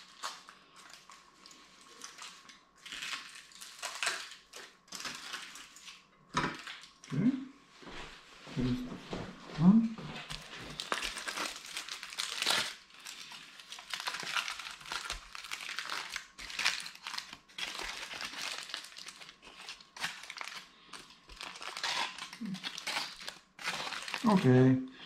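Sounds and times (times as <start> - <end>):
aluminium foil crinkling: 0.0 - 7.1, 10.2 - 24.8.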